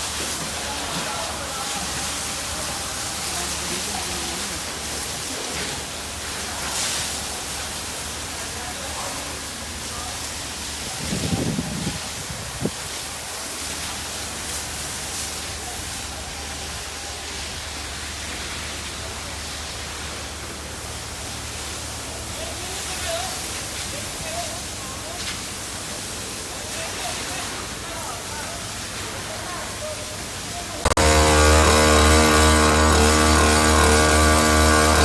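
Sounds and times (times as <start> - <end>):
water spraying from fire hose: 0.0 - 35.0.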